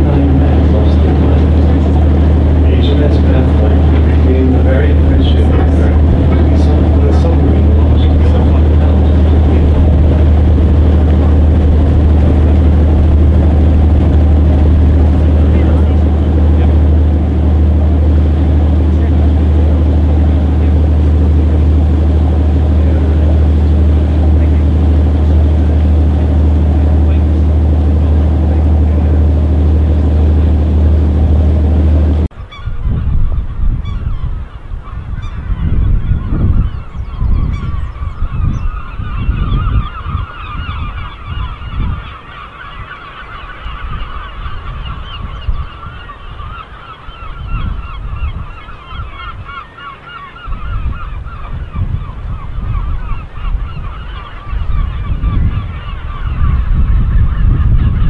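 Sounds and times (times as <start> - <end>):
boat engine running: 0.0 - 58.0
gulls calling: 0.0 - 58.0
wind gusting on microphone: 0.0 - 58.0.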